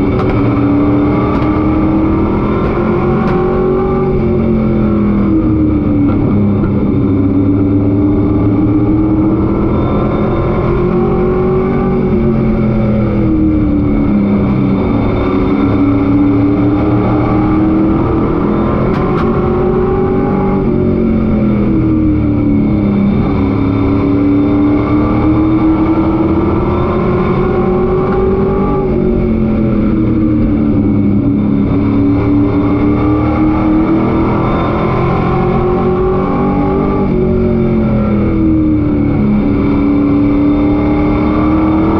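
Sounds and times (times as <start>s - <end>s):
truck engine revving: 0.0s - 41.9s.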